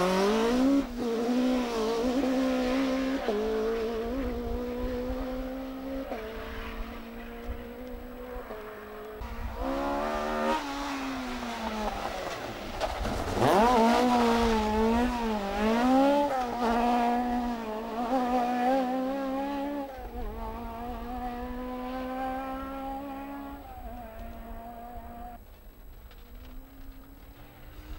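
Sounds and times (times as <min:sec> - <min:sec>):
rally car engine passing: 0:00.0 - 0:25.4
car engine approaching: 0:00.0 - 0:27.9.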